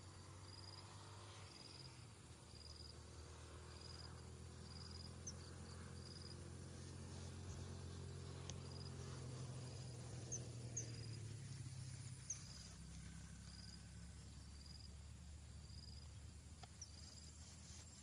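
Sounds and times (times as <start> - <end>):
faint low hum: 0.0 - 18.0
insects chirping: 0.0 - 18.0.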